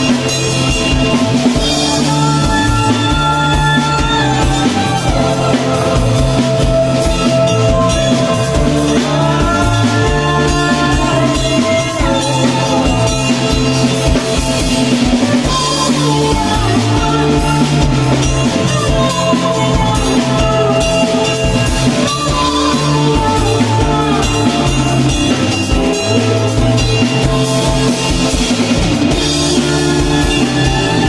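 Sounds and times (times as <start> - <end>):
drum kit beat: 0.0 - 31.0
rock band playing live: 0.0 - 31.0.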